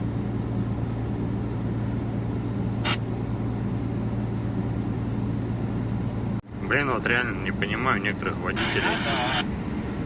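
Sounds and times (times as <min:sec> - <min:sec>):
truck engine drone from cab: 0:00.0 - 0:10.0.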